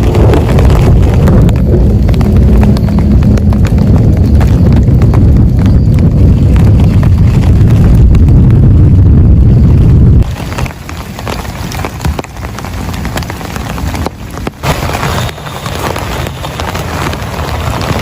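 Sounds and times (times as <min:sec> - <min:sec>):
heavy rainstorm: 0:00.0 - 0:18.0.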